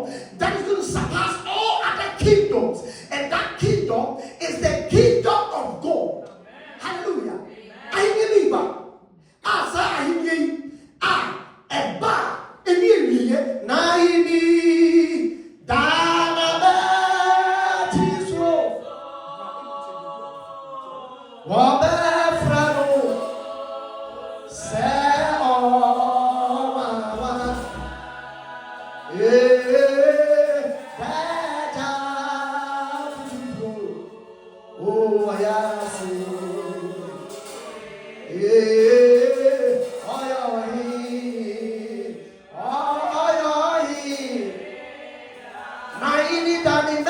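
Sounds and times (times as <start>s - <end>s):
unaccompanied group singing: 0.0s - 10.2s, 13.2s - 47.0s.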